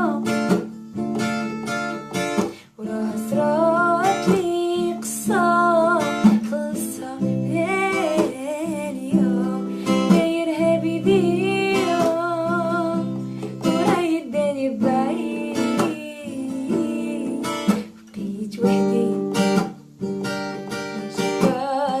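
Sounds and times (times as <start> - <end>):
person singing: 0.0 - 0.6, 2.4 - 19.7, 20.8 - 22.0
strummed string instrument: 0.0 - 22.0.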